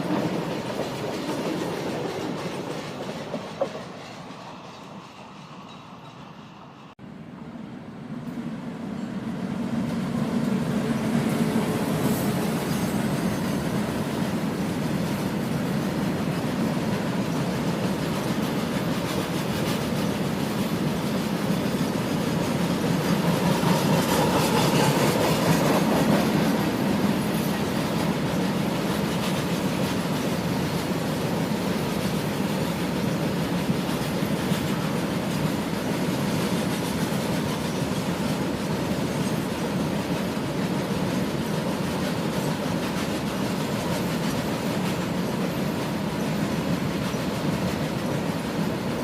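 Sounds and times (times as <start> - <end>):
freight train wheels rattling on rails: 0.0 - 7.0, 8.3 - 49.0.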